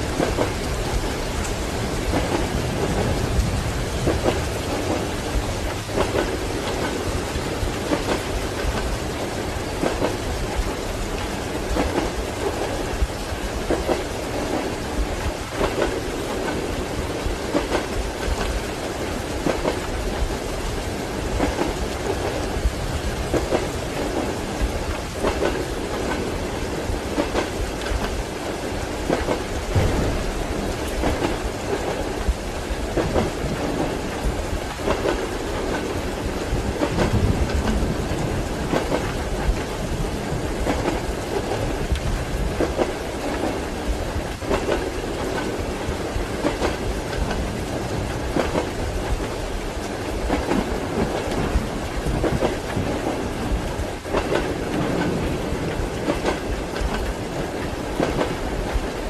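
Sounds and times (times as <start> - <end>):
train wheels clacking over rail joints: 0.0 - 20.3, 23.1 - 59.0
steady rain: 0.0 - 59.0
thunder rumbling: 0.0 - 59.0.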